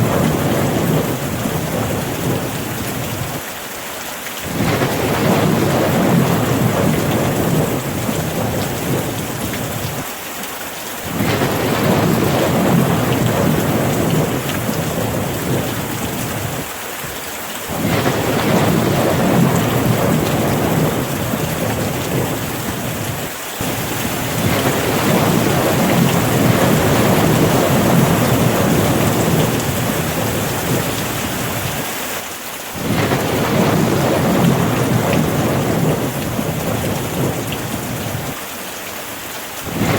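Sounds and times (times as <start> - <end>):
deep thunder rumble: 0.0 - 3.4, 4.4 - 10.0, 11.1 - 16.7, 17.7 - 31.9, 32.8 - 38.4, 39.7 - 39.9
steady rain: 0.0 - 39.9.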